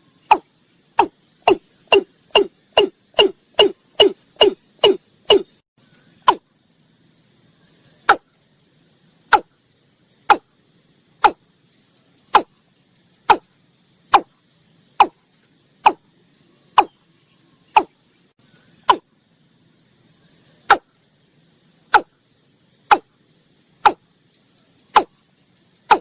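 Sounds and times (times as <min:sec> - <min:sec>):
faint chirring insects: 0:00.0 - 0:26.0.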